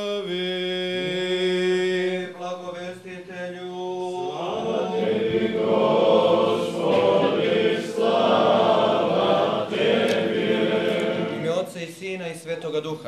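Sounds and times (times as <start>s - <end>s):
choir singing: 0.0s - 11.8s.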